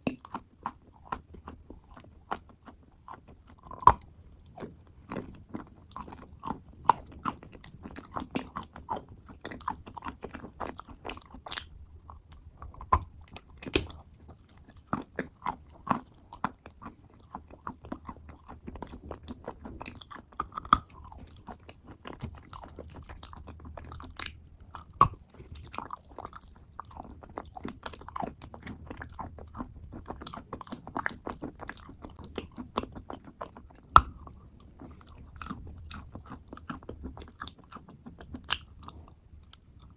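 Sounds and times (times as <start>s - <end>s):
chewing and crunching wet clay: 0.0s - 39.9s.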